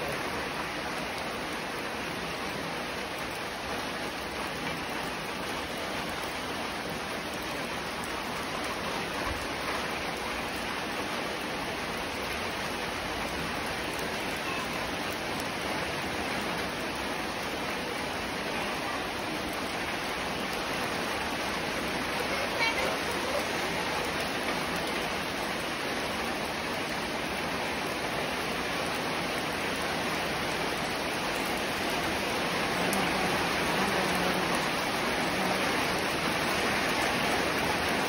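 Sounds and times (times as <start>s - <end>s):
rain falling on puddles: 0.0s - 38.0s.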